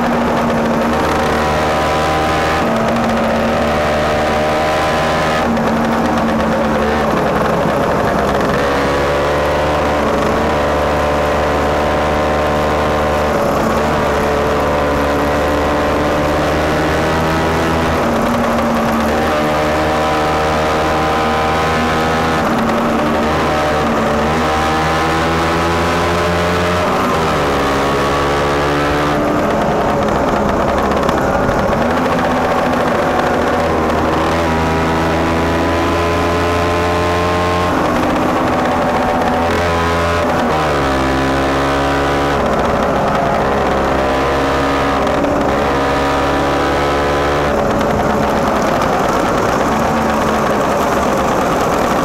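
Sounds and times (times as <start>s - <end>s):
scooter engine accelerating: 0.0s - 52.0s.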